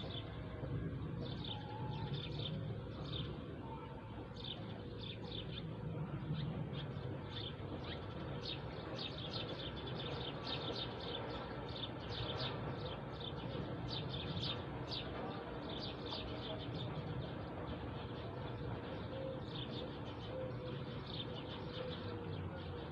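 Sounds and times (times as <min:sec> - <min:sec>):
small birds chirping: 0:00.0 - 0:22.9
steady low rumble: 0:00.0 - 0:22.9.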